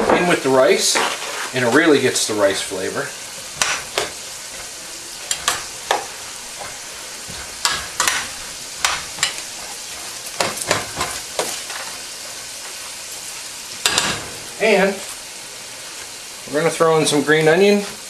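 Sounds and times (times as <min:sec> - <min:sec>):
frying sizzle: 0:00.0 - 0:18.0.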